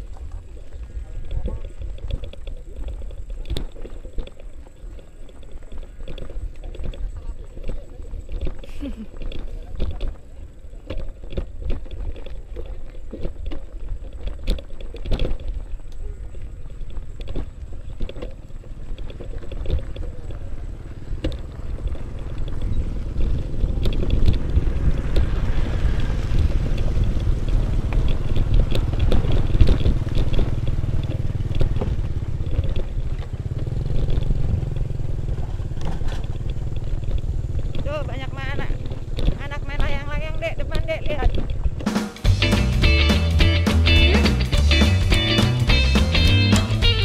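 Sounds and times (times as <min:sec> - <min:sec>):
wind and ground rumble: 0:00.0 - 0:42.0
bike clicking and rattling: 0:00.0 - 0:47.0.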